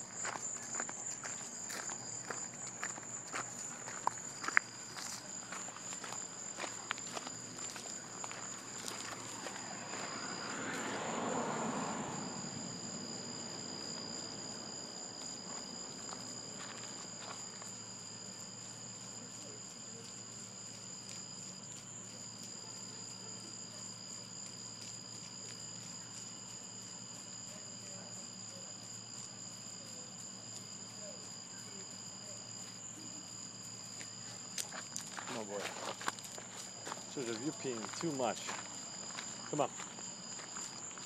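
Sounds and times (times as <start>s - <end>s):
night insects chirring: 0.0s - 41.0s.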